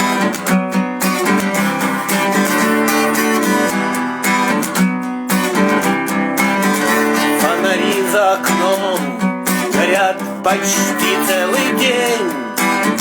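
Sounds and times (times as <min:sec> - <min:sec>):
strummed guitar chords: 0:00.0 - 0:13.0.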